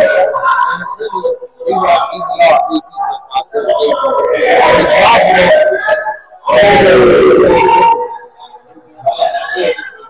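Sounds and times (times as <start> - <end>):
echoing shouting voices: 0.0 - 10.0.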